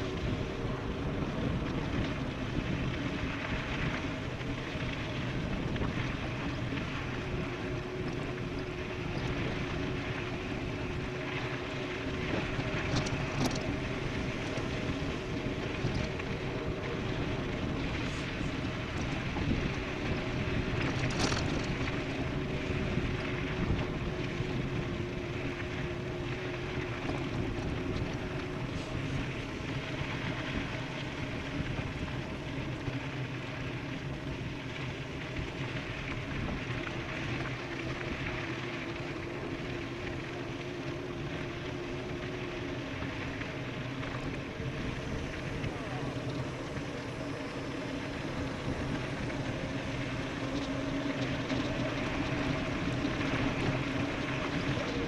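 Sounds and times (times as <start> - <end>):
faint humming tones: 0.0 - 55.0
wind and tyre noise: 0.0 - 55.0.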